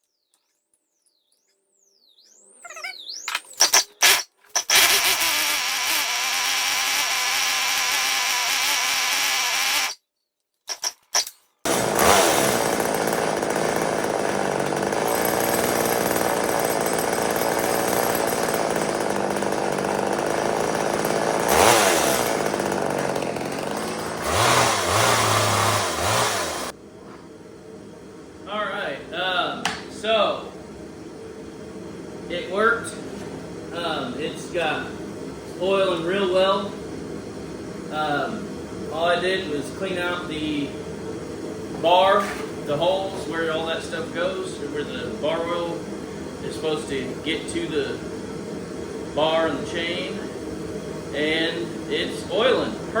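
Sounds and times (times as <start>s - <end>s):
chainsaw engine running: 3.6s - 10.0s, 11.6s - 26.8s, 28.1s - 53.0s.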